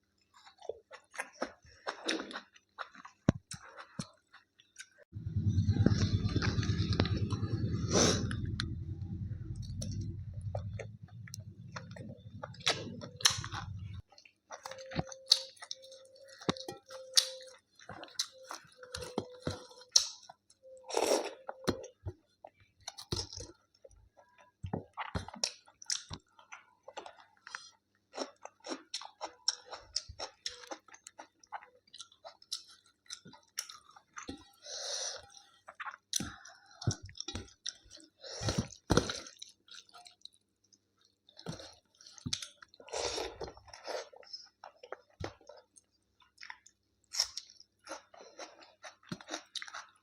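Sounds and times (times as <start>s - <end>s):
person chewing food: 0.0s - 50.0s.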